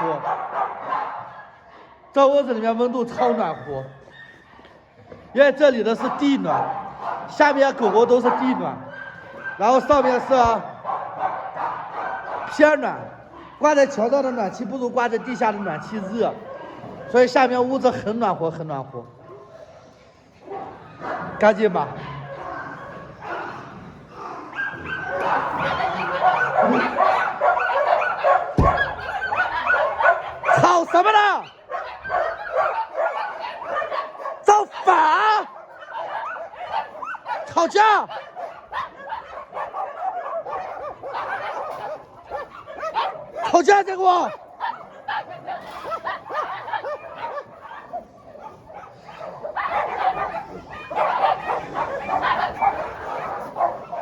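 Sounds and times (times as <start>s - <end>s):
dogs barking and yipping: 0.0s - 54.0s.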